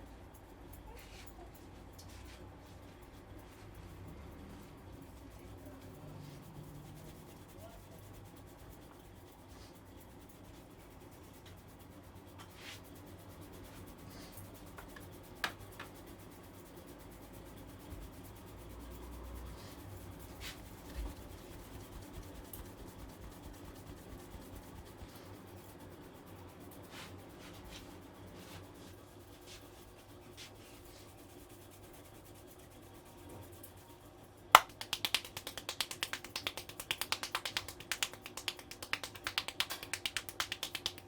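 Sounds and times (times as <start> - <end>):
hands rubbing a scalp: 1.0 - 16.1, 17.7 - 33.6, 34.6 - 41.0.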